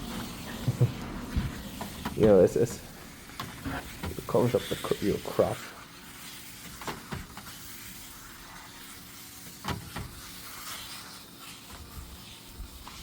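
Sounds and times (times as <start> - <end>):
water spraying onto door: 0.0 - 13.0.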